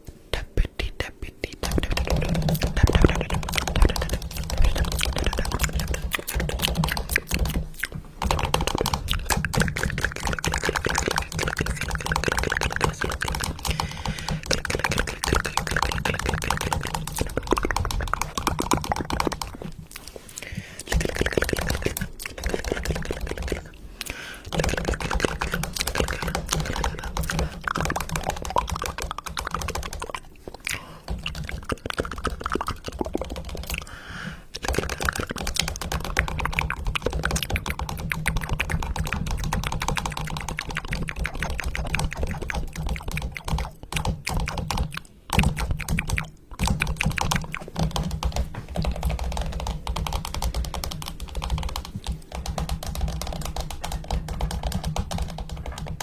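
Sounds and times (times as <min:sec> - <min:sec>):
fast dense clicking: 0:01.6 - 0:19.6, 0:24.5 - 0:33.8, 0:34.6 - 0:56.0.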